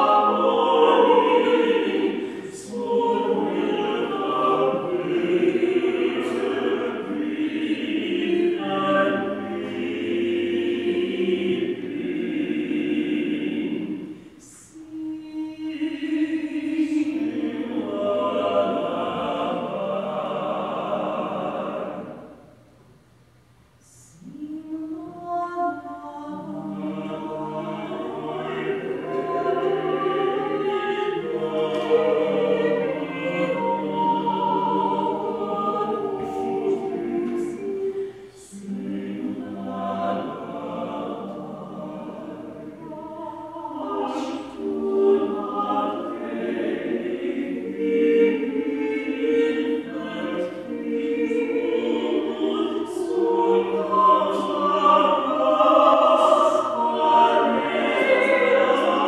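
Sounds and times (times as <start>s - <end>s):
choir singing a slow hymn: 0.0s - 22.8s, 23.7s - 59.0s.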